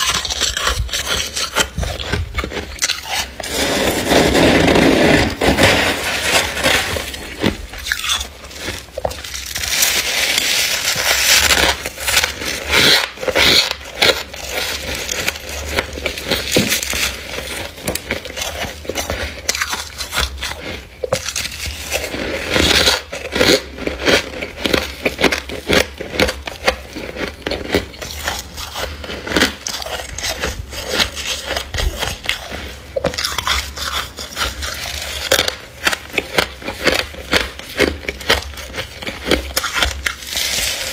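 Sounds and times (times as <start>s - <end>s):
frost scraping and crunching: 0.0s - 40.9s.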